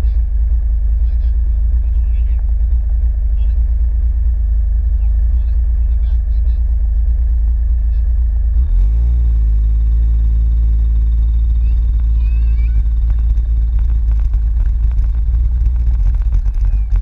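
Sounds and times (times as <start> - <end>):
engine revving: 0.0 - 17.0
heavy low rumble: 0.0 - 17.0.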